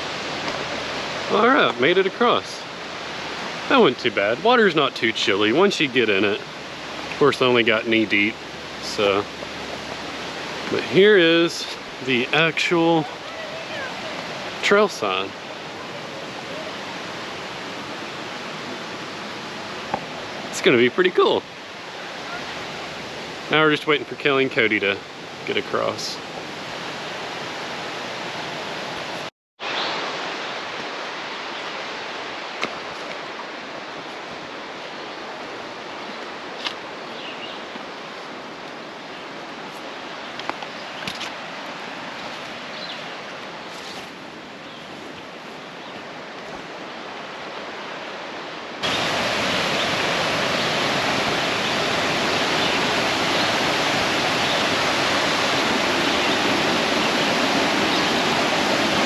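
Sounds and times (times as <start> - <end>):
creek water rushing over rocks: 0.0 - 59.0.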